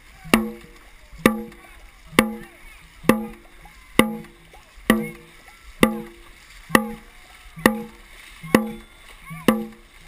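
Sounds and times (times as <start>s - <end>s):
drum struck in steady beat: 0.2s - 9.9s.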